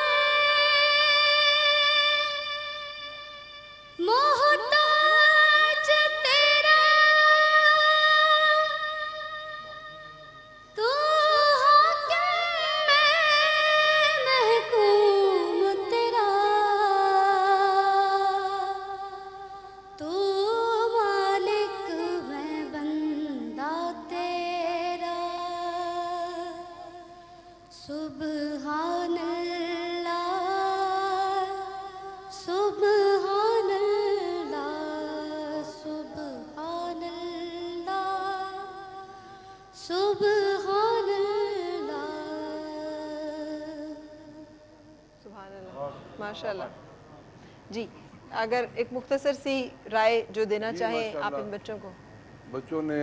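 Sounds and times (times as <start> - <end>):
woman singing unaccompanied: 0.0 - 45.6.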